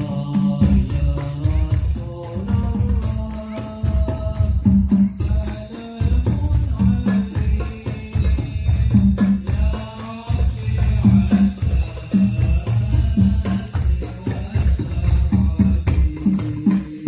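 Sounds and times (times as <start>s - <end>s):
frame drums beating: 0.0s - 17.0s.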